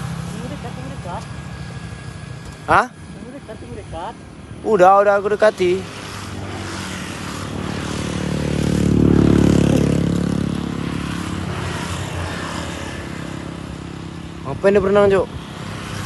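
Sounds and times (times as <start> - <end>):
vehicle passing by: 0.0 - 1.6, 4.7 - 16.0.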